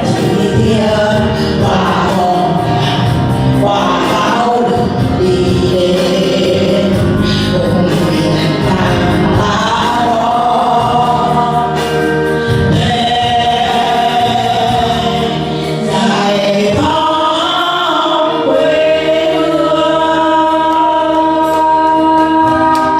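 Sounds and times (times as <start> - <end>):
group singing with music: 0.0 - 22.9.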